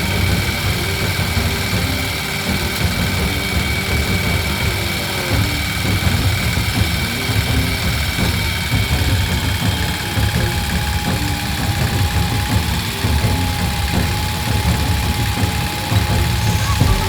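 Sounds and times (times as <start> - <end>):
diesel engine chugging: 0.0 - 17.0.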